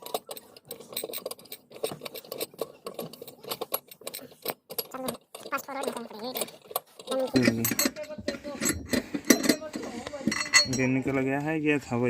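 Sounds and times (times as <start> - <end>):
metallic clicking and scraping: 0.0 - 11.3.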